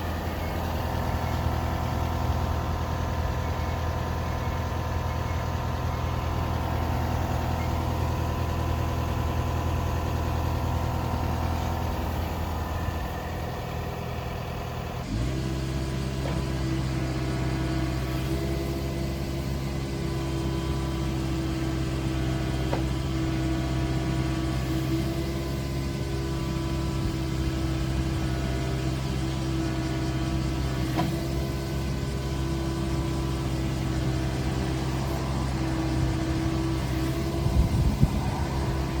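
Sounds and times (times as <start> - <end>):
excavator diesel engine: 0.0 - 39.0.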